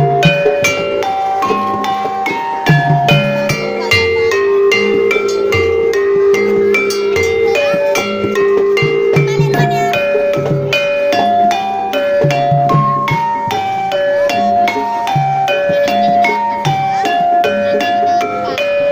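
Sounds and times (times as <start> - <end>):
drumming: 0.0 - 18.9
gamelan metal keys ringing: 0.0 - 18.9.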